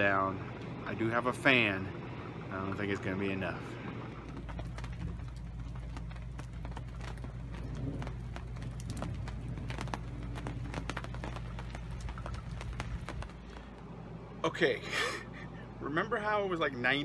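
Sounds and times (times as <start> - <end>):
rain dripping: 0.0 - 14.4
steady low hum: 0.0 - 17.0.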